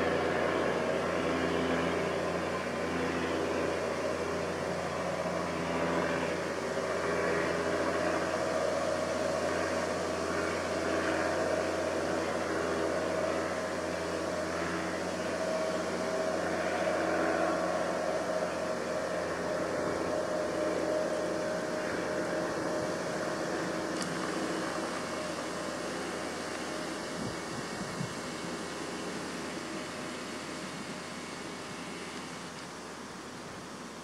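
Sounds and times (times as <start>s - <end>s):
mechanical drone: 0.0s - 34.0s.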